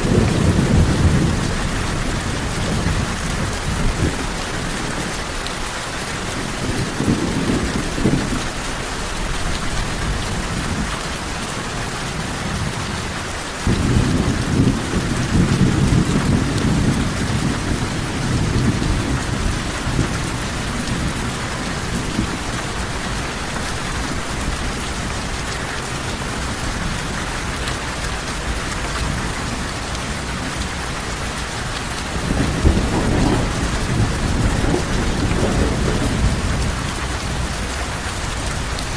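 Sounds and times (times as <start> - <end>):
low thunder rumbling: 0.0 - 5.3, 12.2 - 27.5, 28.1 - 38.9
heavy rain: 0.0 - 38.9.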